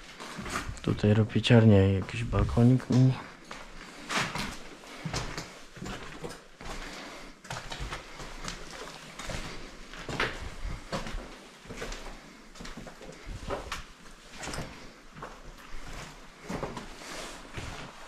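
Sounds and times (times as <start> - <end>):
footsteps on rubble: 1.8 - 18.0.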